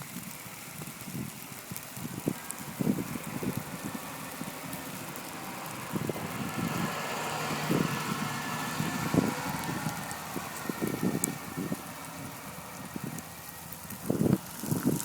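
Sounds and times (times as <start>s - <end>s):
motor vehicle passing: 2.4s - 15.0s.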